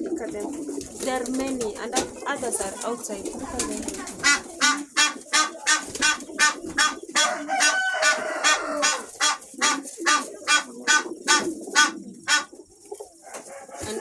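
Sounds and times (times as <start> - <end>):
pigeons and doves cooing: 0.0 - 14.0.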